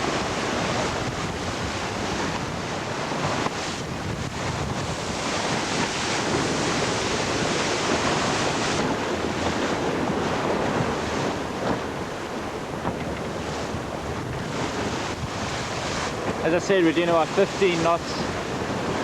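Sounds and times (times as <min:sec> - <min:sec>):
water rushing along boat hull: 0:00.0 - 0:19.0
wind buffeting microphone: 0:00.0 - 0:19.0
wind of strong breeze: 0:00.0 - 0:19.0.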